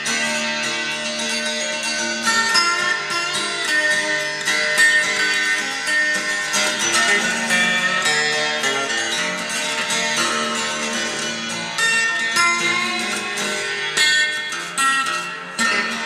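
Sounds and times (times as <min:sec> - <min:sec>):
instrumental guitar music: 0:00.0 - 0:16.0.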